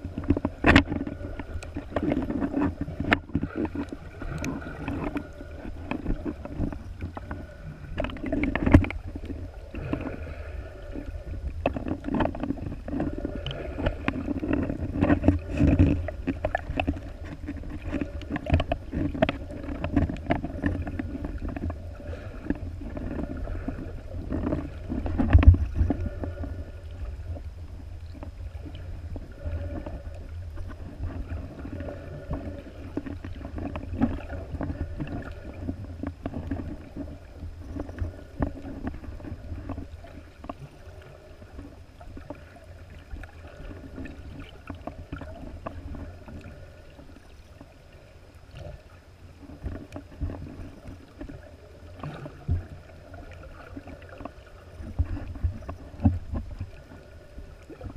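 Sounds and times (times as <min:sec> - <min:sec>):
muffled underwater water rumble: 0:00.0 - 0:57.9.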